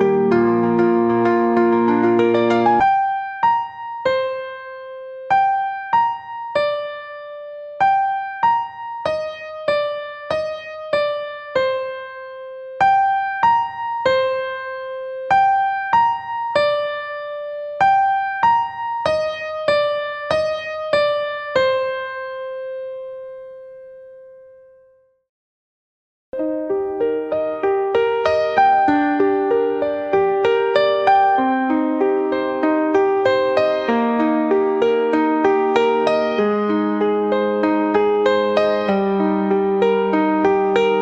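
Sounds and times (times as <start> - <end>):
gentle electric piano melody: 0.0 - 25.0, 26.4 - 41.0.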